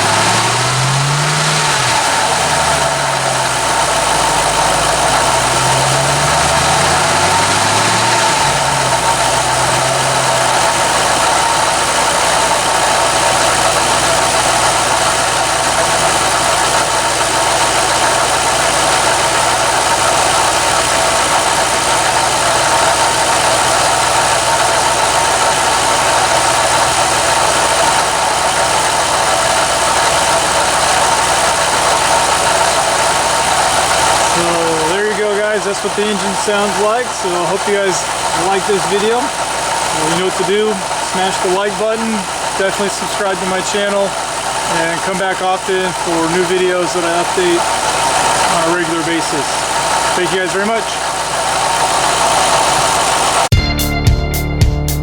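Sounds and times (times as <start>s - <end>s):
car engine revving and idling: 0.0s - 53.6s.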